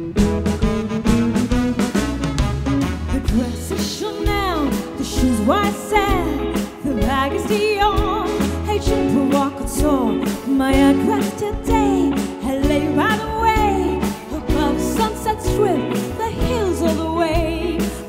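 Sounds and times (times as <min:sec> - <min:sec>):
band music with drum beat: 0:00.0 - 0:18.0
woman singing: 0:03.1 - 0:18.0.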